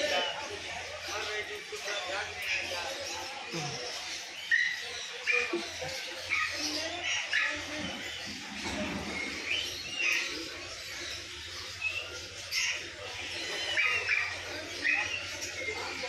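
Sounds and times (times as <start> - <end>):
animal chirps and squeaks: 0.0 - 16.0.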